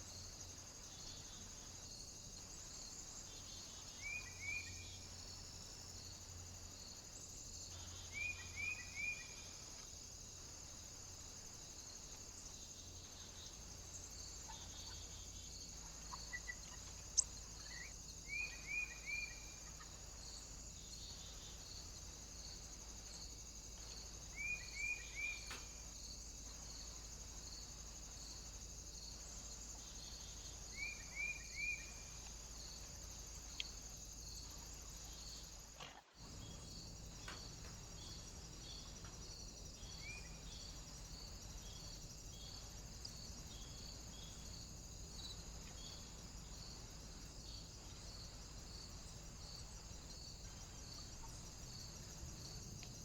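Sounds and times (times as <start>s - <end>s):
steady pulsing high hiss: 0.0s - 53.0s.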